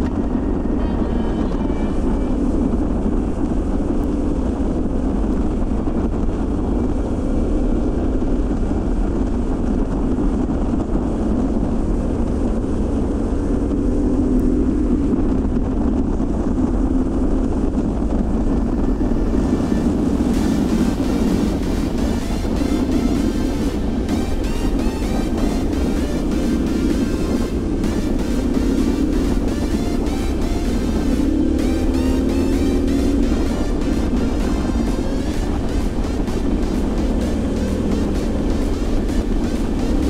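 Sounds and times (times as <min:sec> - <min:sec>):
motorcycle engine cruising: 0:00.0 - 0:40.0
wind and road rush: 0:00.0 - 0:40.0.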